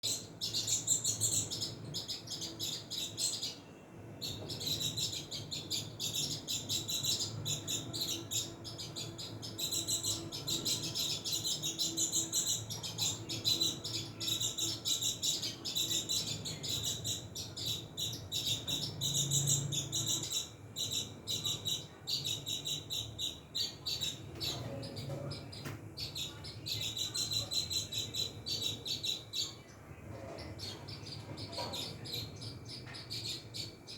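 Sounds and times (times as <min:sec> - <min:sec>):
sparrows chirping: 0:00.0 - 0:33.9.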